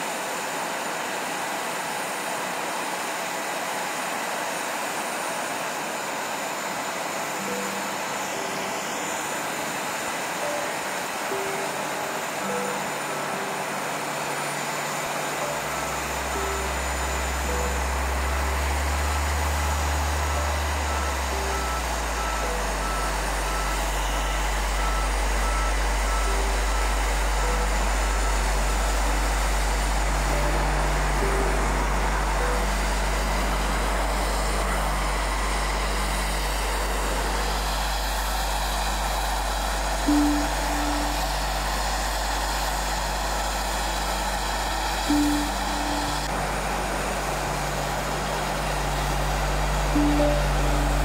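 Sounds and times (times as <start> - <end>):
faint high whine: 0.0 - 51.0
low engine drone: 4.9 - 51.0
warning beeper beeps: 7.4 - 9.8, 10.4 - 51.0.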